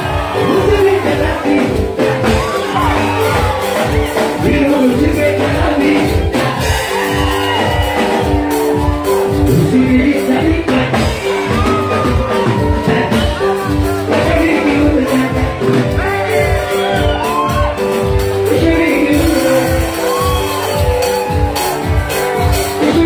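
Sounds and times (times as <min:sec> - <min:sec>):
crowd shouting and whooping: 0:00.0 - 0:23.0
loud dance music with bass beat: 0:00.0 - 0:23.0
person singing: 0:00.0 - 0:23.0.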